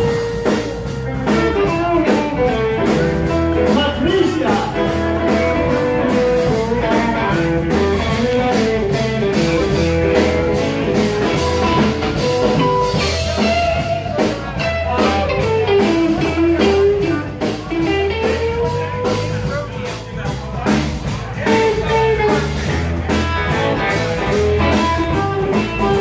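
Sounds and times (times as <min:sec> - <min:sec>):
bass guitar: 0:00.0 - 0:26.0
drum kit beat: 0:00.0 - 0:26.0
electric guitar lead: 0:00.0 - 0:26.0.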